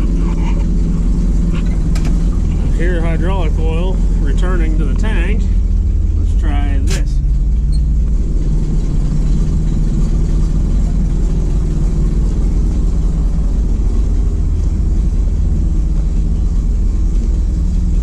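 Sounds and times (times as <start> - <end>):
truck engine running at low revs: 0.0 - 18.0.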